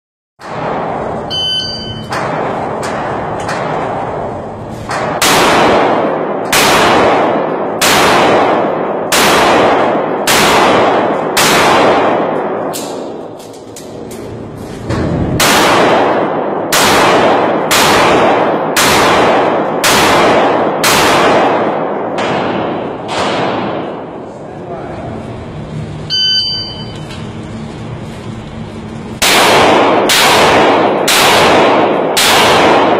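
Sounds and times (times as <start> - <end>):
handgun shots echoing indoors: 0.4 - 24.3, 29.2 - 32.9.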